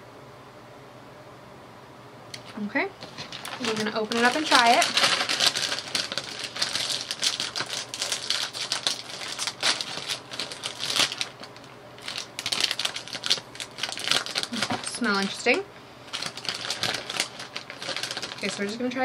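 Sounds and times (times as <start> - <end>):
foil chip bag crinkling: 2.4 - 19.0.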